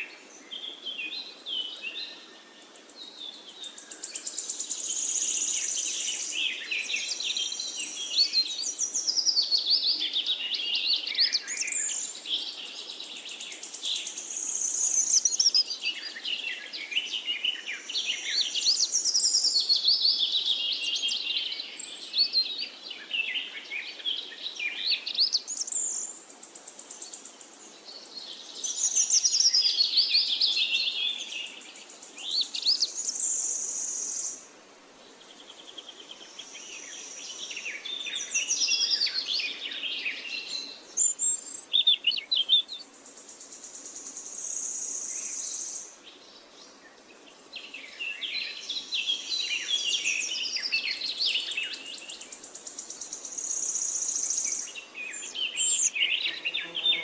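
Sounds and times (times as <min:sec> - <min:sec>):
birds chirping and singing: 0:00.0 - 0:34.4, 0:36.4 - 0:57.0.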